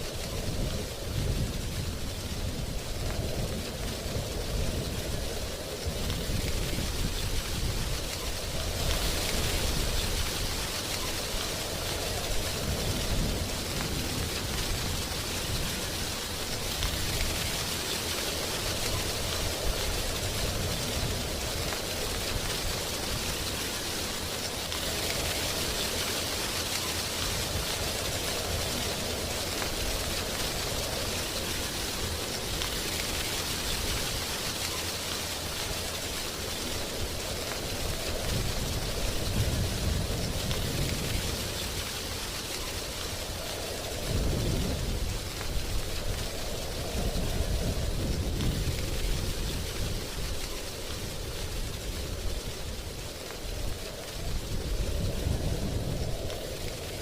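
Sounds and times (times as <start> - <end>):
wind rustling dry leaves: 0.0 - 57.0.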